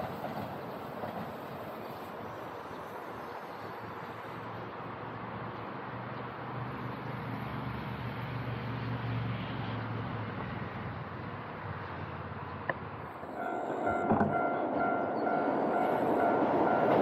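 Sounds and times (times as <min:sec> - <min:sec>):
distant electric train rumble: 0:00.0 - 0:17.0.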